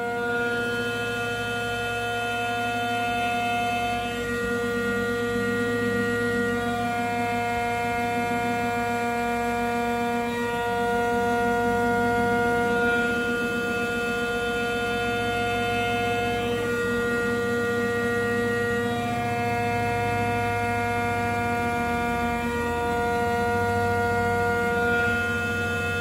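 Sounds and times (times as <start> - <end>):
low rumble of cutting metal: 0.0 - 26.0
milling machine spindle whining: 0.0 - 26.0.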